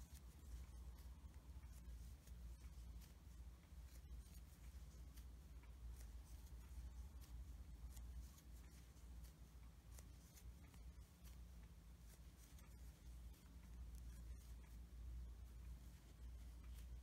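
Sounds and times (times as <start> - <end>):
crochet hook ticking and yarn rustling: 0.0 - 17.0
low steady hum: 0.0 - 17.0.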